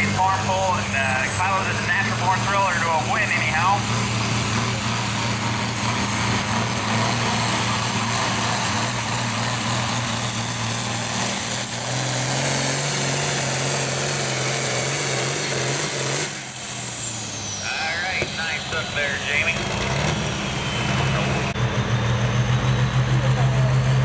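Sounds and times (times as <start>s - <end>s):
high turbo whine: 0.0s - 24.0s
tractor diesel engine under load: 0.0s - 24.0s.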